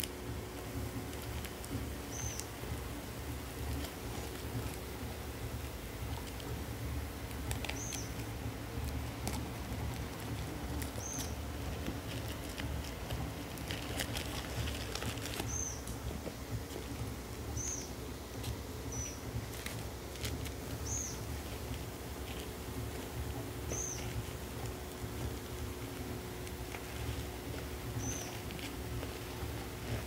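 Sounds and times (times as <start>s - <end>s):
parcel wrapping crinkling: 0.0s - 17.2s, 17.8s - 30.0s
steady low hum: 0.0s - 30.0s.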